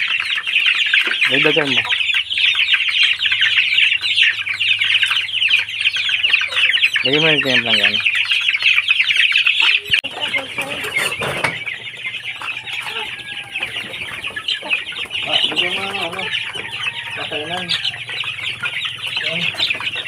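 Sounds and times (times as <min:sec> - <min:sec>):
chicks peeping: 0:00.0 - 0:20.0
hens clucking: 0:00.0 - 0:20.0.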